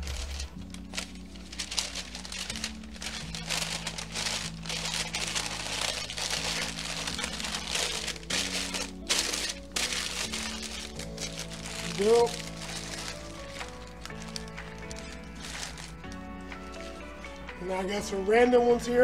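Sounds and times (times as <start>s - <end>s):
wrapping paper crinkling: 0.0s - 17.6s
background music with low notes: 0.0s - 19.0s.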